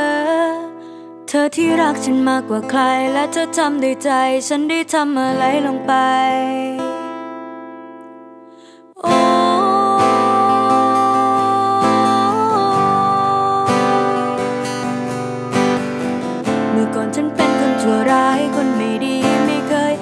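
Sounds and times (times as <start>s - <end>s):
acoustic guitar strumming chords: 0.8s - 20.0s.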